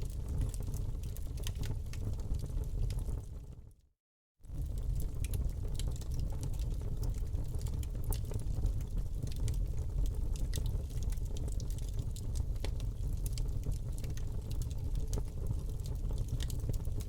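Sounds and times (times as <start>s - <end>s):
wood fire crackling: 0.0s - 3.7s, 4.5s - 17.0s
low rumble of flames: 0.0s - 3.8s, 4.4s - 17.0s.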